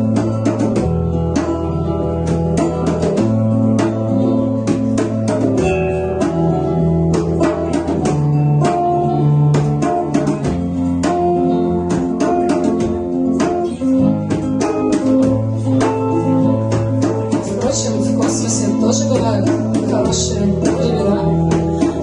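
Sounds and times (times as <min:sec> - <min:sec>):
acoustic guitar playing: 0:00.0 - 0:22.0
hand drum beat: 0:00.0 - 0:22.0.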